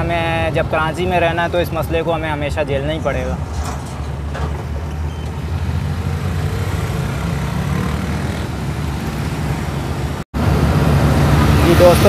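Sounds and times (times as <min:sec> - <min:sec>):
car engine and road rumble: 0:01.9 - 0:12.0.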